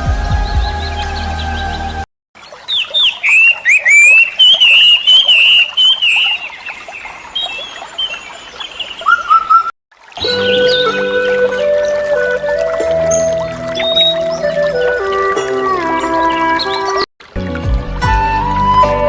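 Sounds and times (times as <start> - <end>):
birds chirping and warbling: 0.4 - 12.1, 12.8 - 17.1.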